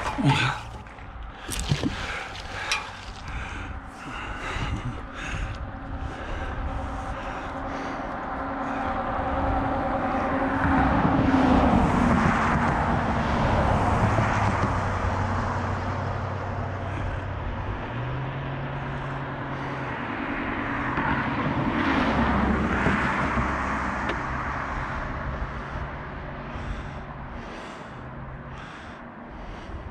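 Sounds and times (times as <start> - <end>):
vehicles passing by: 0.0 - 29.9.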